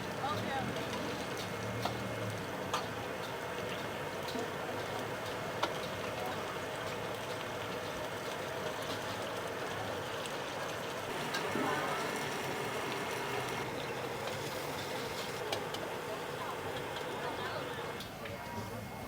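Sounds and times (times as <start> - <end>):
batter frying in hot oil: 0.0 - 19.0.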